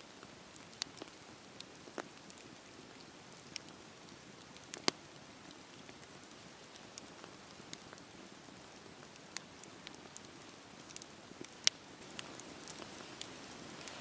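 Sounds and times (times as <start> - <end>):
campfire crackling and popping: 0.2 - 14.0.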